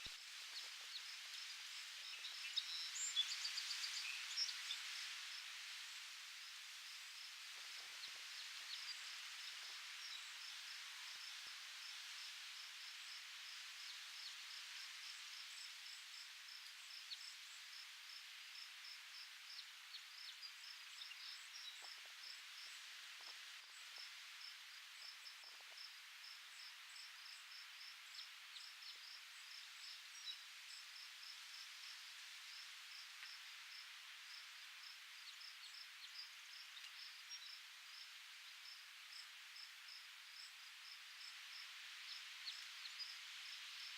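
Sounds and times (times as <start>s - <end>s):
crickets chirping: 6.5s - 43.9s.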